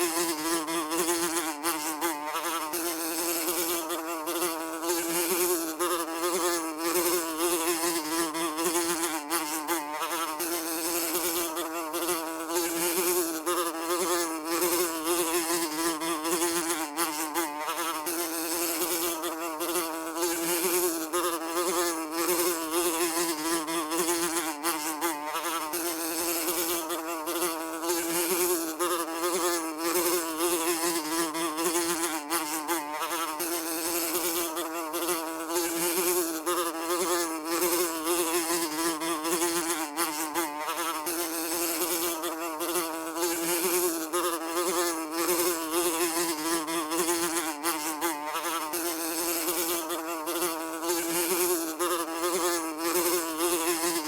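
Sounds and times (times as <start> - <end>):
fly buzzing: 0.0 - 54.0.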